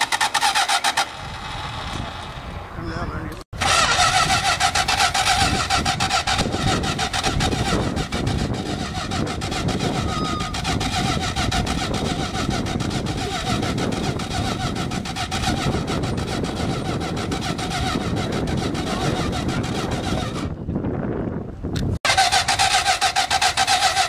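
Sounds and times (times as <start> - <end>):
car engine cranking: 0.0 - 2.4, 3.6 - 20.7, 22.0 - 24.0.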